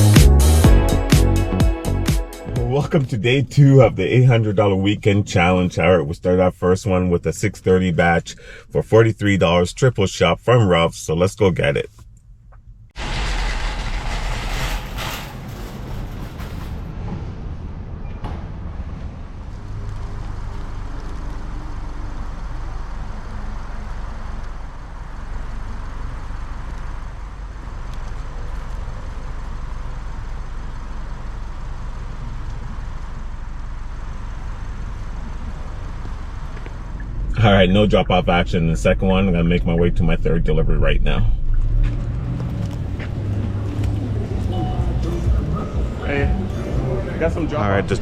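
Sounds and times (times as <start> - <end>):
car engine and road noise: 2.3 - 48.0.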